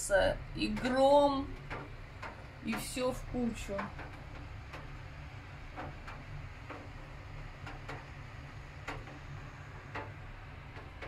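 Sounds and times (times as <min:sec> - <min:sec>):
low steady hum: 0:00.0 - 0:11.0
raindrops ticking on window: 0:00.0 - 0:11.0.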